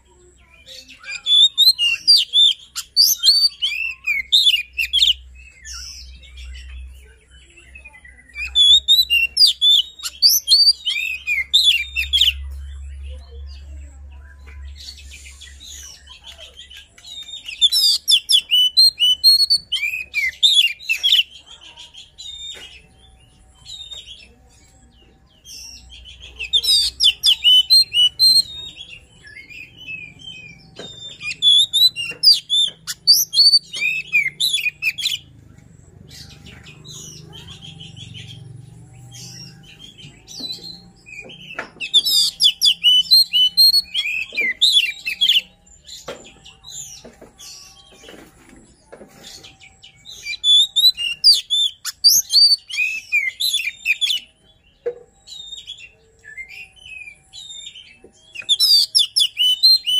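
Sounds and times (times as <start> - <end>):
bird singing whistles and chatter: 0.0 - 59.9.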